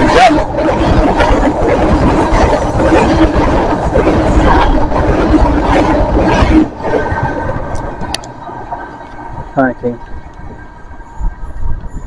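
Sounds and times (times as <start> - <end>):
passenger train passing: 0.0 - 12.0.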